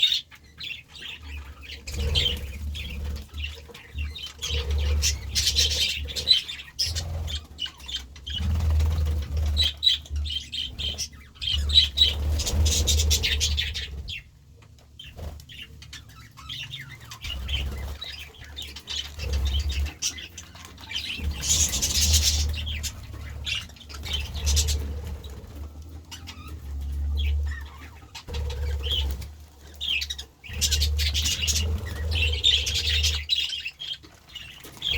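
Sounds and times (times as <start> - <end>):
budgerigars chattering and chirping: 0.0 - 34.9
wings flapping: 1.6 - 14.2, 16.9 - 34.9.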